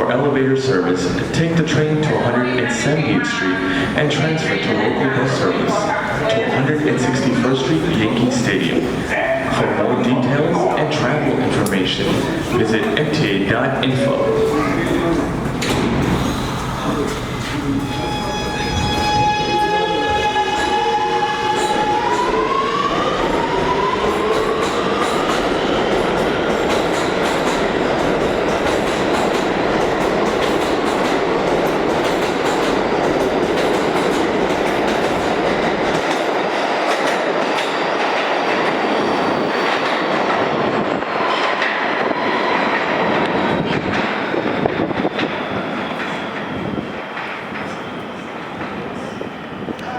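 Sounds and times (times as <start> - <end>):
train cars rumbling and clattering: 0.0 - 49.9.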